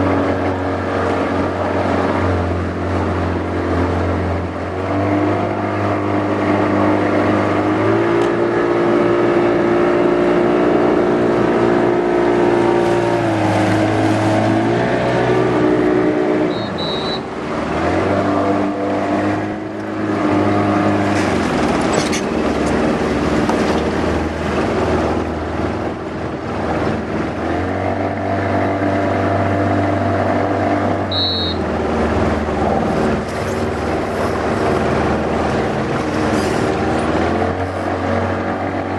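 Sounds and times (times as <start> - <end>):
outboard engine running: 0.0 - 38.9.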